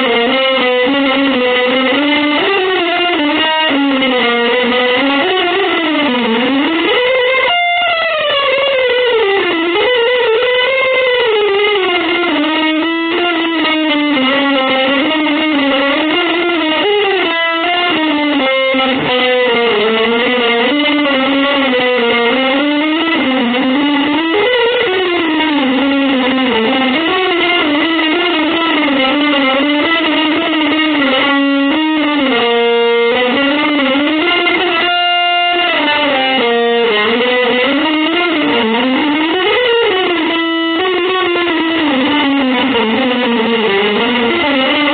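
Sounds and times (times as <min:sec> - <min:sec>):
electric guitar lead line: 0:00.0 - 0:44.9.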